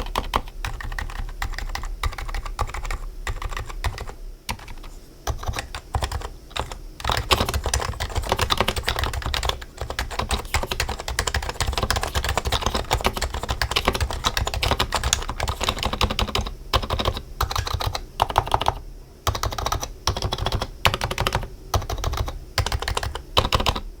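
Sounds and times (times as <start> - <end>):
keyboard typing: 0.0 - 23.8.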